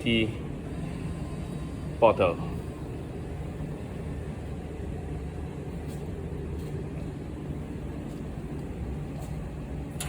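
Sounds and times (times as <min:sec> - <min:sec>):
vending machine humming: 0:00.0 - 0:10.0.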